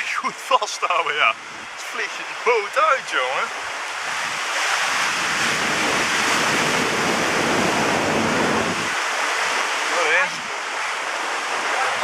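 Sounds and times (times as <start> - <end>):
water rushing over boat: 0.0 - 12.0.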